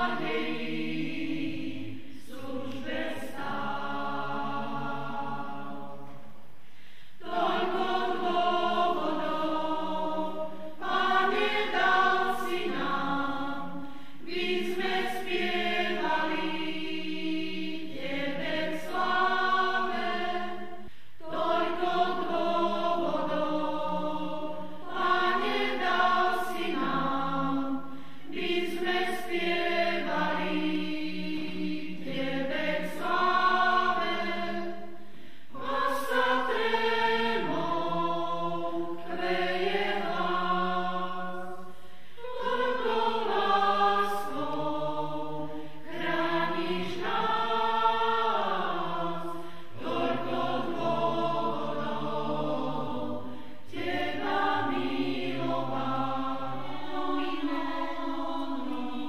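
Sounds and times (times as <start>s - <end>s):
mixed choir singing: 0.0s - 6.4s, 7.2s - 59.0s.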